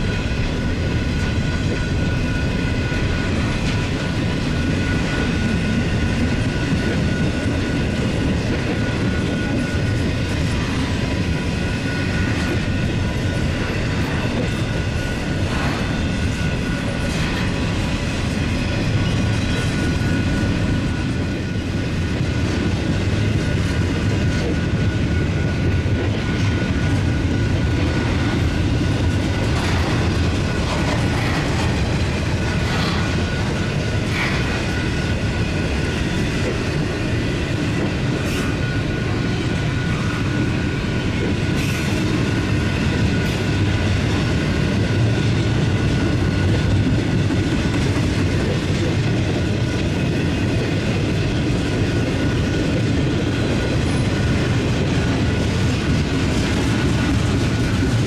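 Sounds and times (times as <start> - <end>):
steel wheels rumbling on rail: 0.0 - 58.0
train cars clattering: 0.0 - 58.0.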